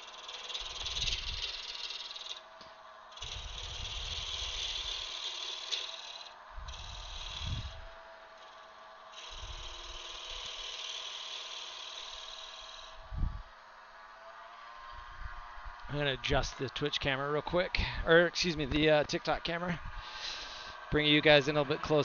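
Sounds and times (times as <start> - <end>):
lathe tool cutting wood: 0.0 - 13.2, 13.8 - 22.0
lathe motor hum: 0.0 - 22.0.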